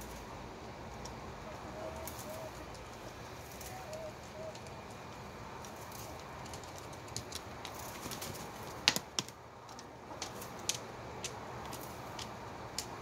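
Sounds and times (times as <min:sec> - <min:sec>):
chickens pecking and scratching: 0:00.0 - 0:13.0
steady background noise: 0:00.0 - 0:13.0.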